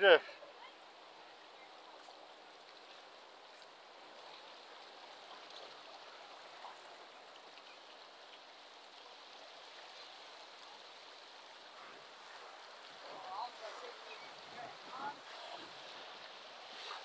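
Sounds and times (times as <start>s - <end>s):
water rushing and splashing on rocks: 0.0s - 17.0s.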